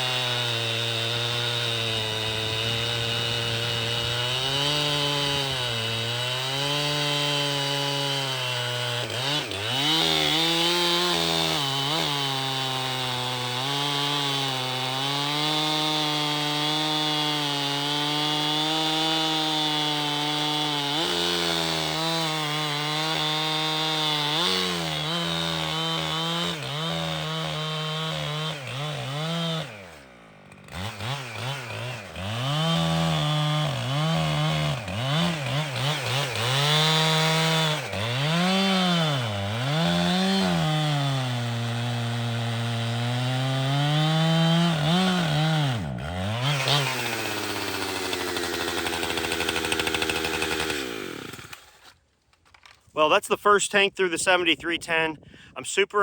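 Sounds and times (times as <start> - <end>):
chainsaw cutting wood: 0.0 - 55.1.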